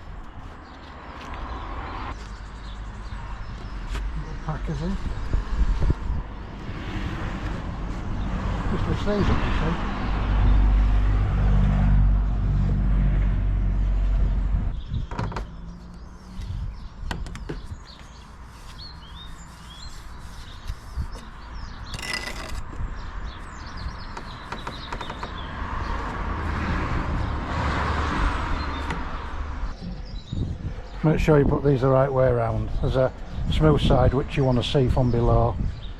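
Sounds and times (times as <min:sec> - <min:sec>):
birds chirping: 0:00.0 - 0:10.9, 0:13.5 - 0:26.4, 0:27.0 - 0:35.9.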